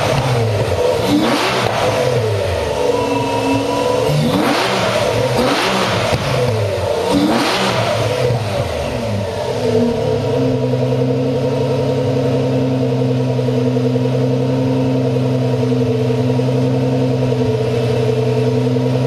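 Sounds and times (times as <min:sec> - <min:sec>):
car engine running loudly: 0:00.0 - 0:19.0.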